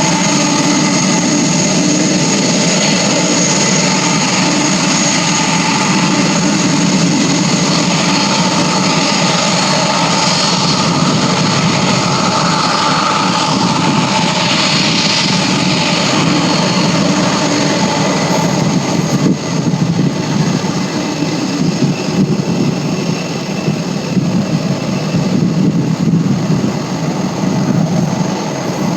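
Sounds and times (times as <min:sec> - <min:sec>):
high whine: 0:00.0 - 0:28.9
jet engines running: 0:00.0 - 0:28.9.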